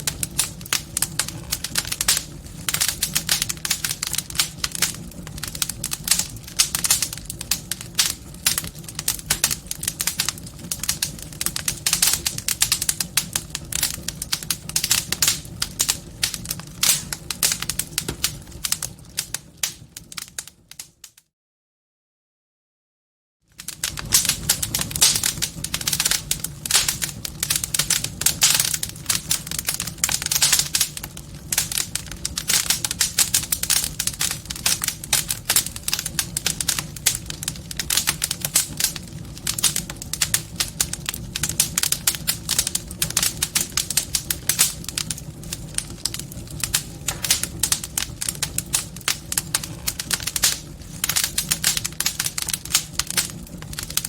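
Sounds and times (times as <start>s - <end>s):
fire rumbling: 0.0s - 21.1s, 23.5s - 54.0s
fire crackling and popping: 0.0s - 21.2s, 23.5s - 54.0s.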